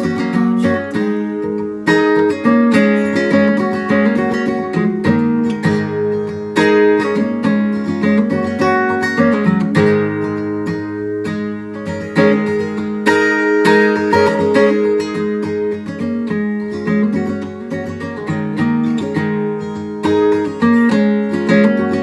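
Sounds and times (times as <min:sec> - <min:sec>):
plucked string instrument: 0:00.0 - 0:22.0.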